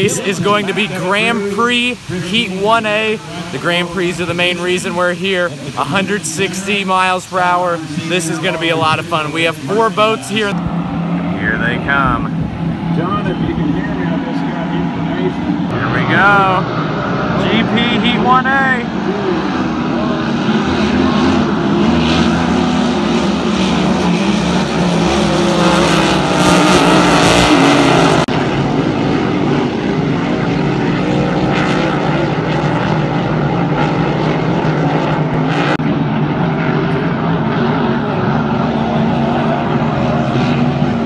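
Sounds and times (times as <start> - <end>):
race boat engines droning: 0.0 - 41.0.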